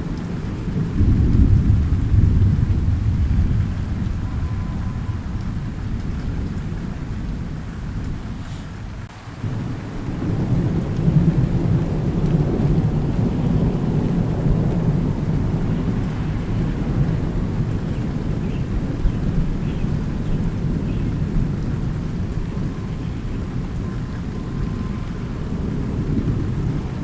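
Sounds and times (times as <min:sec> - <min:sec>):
rain falling: 0:00.0 - 0:27.0
rolling thunder: 0:00.0 - 0:27.0.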